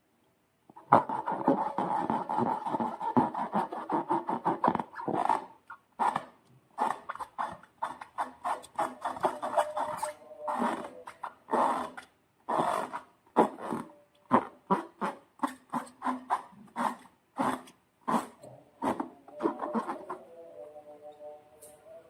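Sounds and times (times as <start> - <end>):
squeaky rubber balloon: 0.8 - 21.8.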